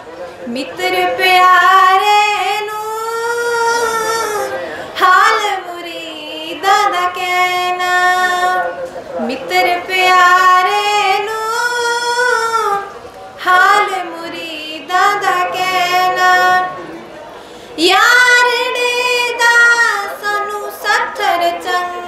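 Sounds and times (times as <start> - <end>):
woman singing slow melody: 0.5 - 8.6, 9.2 - 16.7, 17.8 - 22.0.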